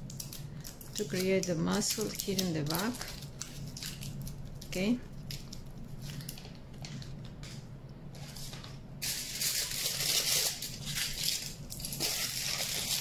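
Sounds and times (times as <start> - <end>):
aluminium foil crinkling: 0.0 - 7.6, 8.2 - 13.0.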